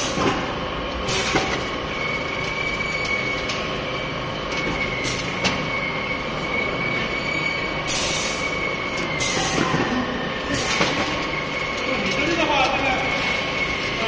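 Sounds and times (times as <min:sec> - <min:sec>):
conveyor mechanical rumble: 0:00.0 - 0:14.0.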